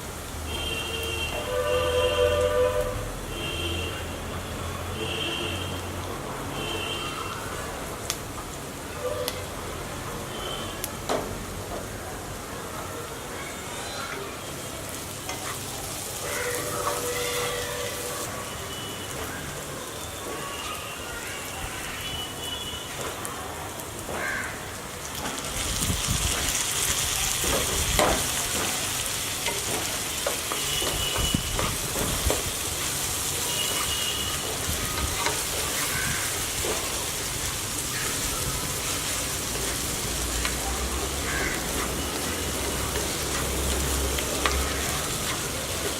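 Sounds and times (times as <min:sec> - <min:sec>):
chicken sizzling in a pan: 0:06.6 - 0:45.9.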